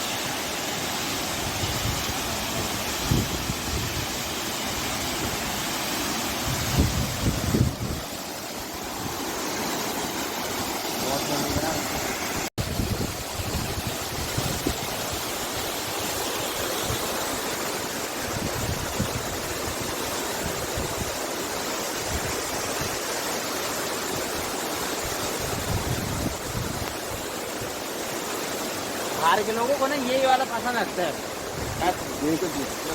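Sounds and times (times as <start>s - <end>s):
rushing flowing water: 0.0s - 32.9s.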